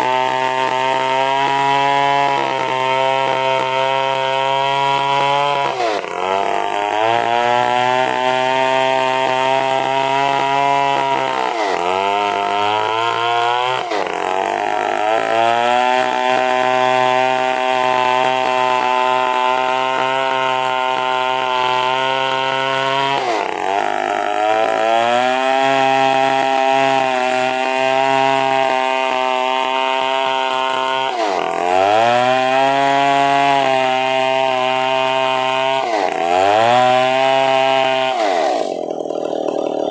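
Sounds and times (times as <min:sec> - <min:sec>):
chainsaw cutting log at high revs: 0:00.0 - 0:39.9.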